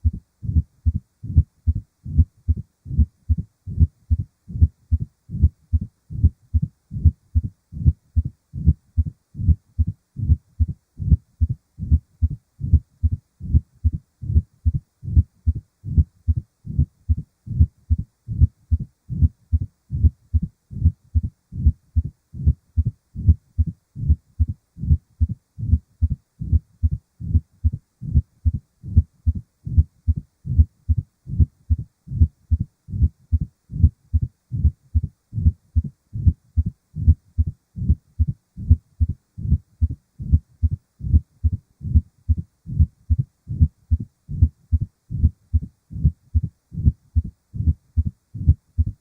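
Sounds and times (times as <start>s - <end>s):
low-pitched heartbeats: 0.0s - 49.0s.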